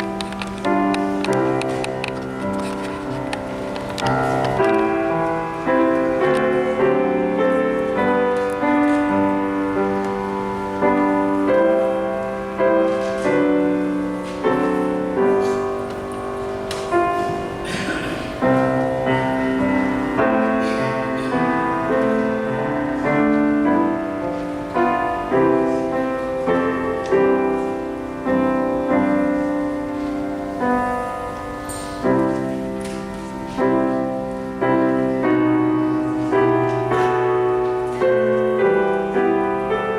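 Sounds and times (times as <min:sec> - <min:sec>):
slow classical piano piece: 0:00.0 - 0:39.9.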